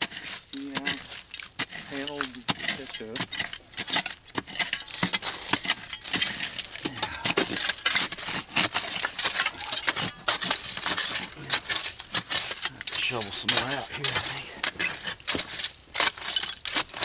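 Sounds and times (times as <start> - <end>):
digging tool scraping dirt: 0.0 - 17.0
glass clinking: 0.6 - 14.2, 14.8 - 16.9.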